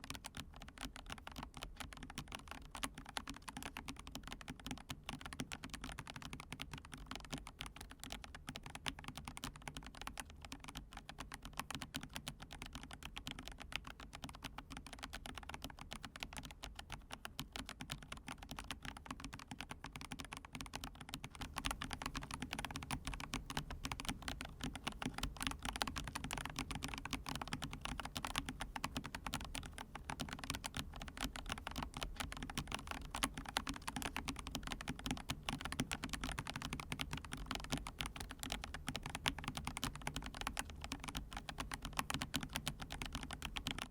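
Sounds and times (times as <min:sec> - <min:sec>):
typing on mechanical keyboard: 0:00.0 - 0:43.9.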